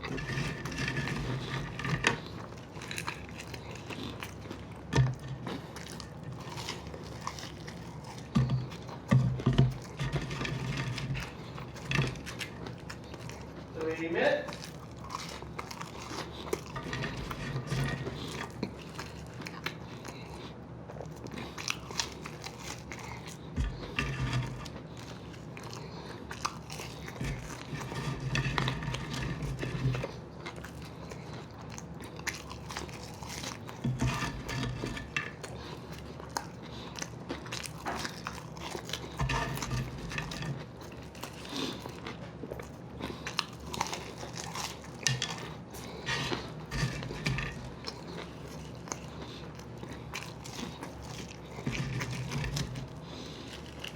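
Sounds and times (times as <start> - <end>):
food crunching: 0.0 - 53.9
people chewing food: 0.0 - 53.9.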